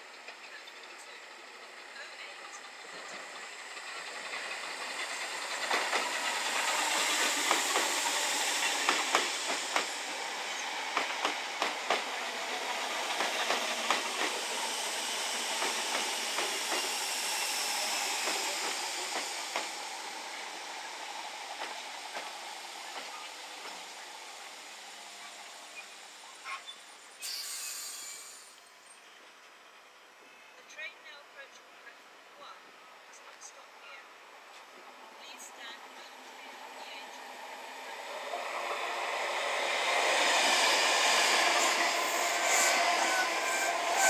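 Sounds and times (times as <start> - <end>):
train running: 0.0 - 44.0.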